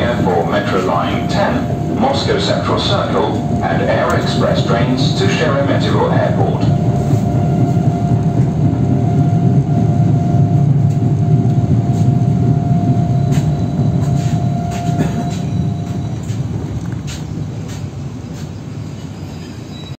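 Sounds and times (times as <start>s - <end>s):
train high whine: 0.0s - 19.9s
train low rumble: 0.0s - 19.9s.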